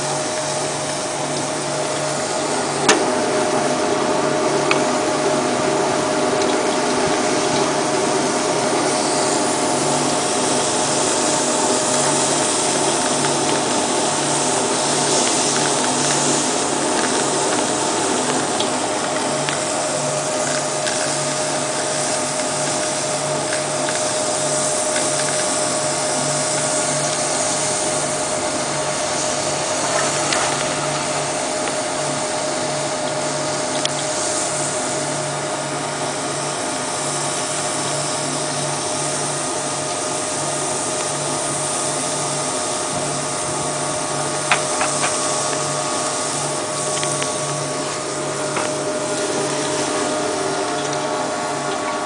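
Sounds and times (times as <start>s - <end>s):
press machine running: 0.0s - 35.3s, 42.4s - 52.0s
motor whine: 0.0s - 52.0s.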